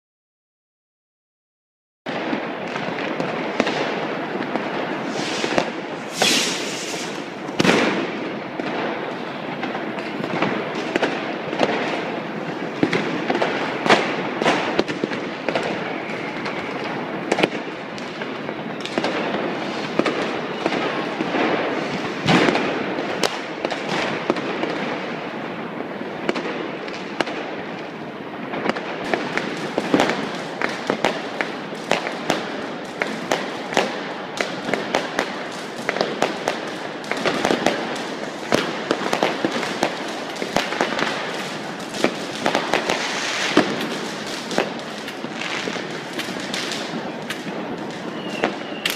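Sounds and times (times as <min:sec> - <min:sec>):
firecrackers and rockets: 0:02.1 - 0:48.9
loud fireworks bangs: 0:02.1 - 0:48.9.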